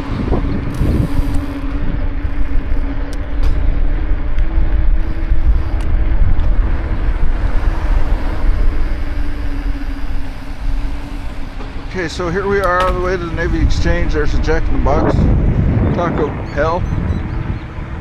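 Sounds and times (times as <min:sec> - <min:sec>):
steady hum: 0:00.0 - 0:18.0
wind rumbling on microphone: 0:00.0 - 0:18.0.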